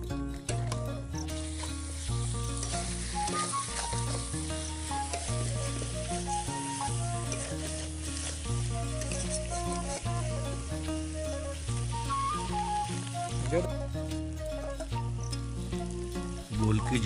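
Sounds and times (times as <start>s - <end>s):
background music: 0.0s - 17.0s
chicken sizzling in hot oil: 1.2s - 13.7s, 15.2s - 17.0s.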